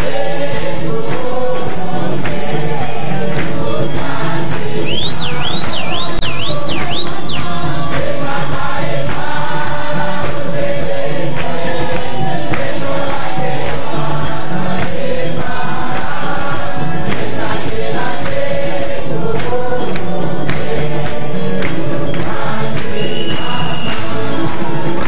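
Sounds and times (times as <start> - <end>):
congregation singing: 0.0 - 25.0
sharp percussive hits: 0.0 - 25.0.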